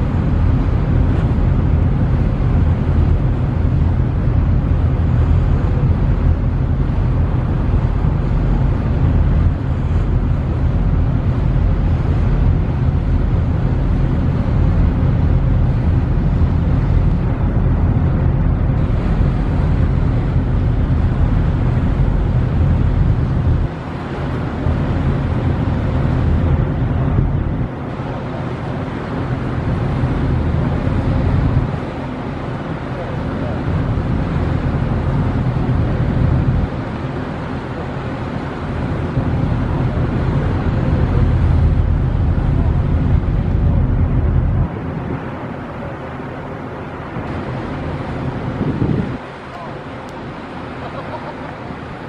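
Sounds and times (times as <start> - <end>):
ship engines rumbling: 0.0 - 52.0
water rushing: 0.0 - 52.0
wind on microphone: 0.0 - 52.0.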